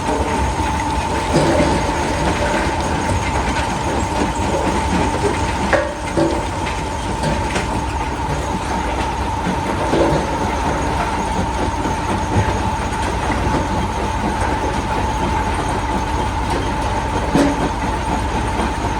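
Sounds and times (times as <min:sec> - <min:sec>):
constant whine: 0:00.0 - 0:18.9
rock crusher rumbling: 0:00.0 - 0:18.9.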